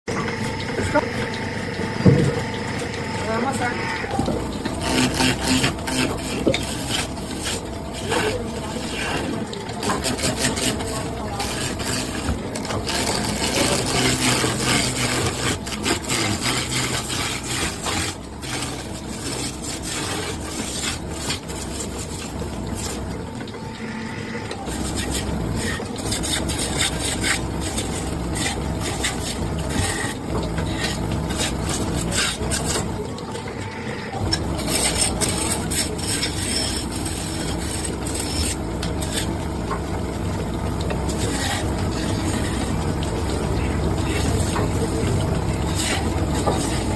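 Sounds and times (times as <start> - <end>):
low motor hum: 0.1 - 46.9
tool rasping against wood: 4.2 - 23.1, 24.6 - 32.9, 34.3 - 39.4, 40.8 - 46.9.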